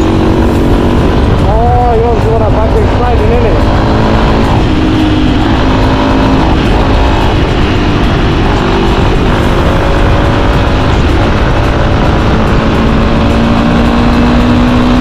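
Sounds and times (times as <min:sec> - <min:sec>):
motorcycle engine revving: 0:00.0 - 0:15.0
wind noise: 0:00.0 - 0:15.0.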